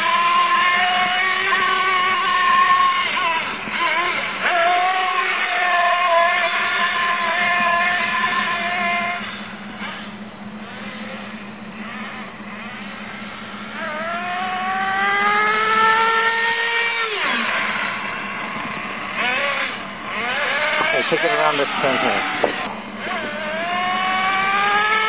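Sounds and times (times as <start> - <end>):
rc car engine revving: 0.0 - 25.0.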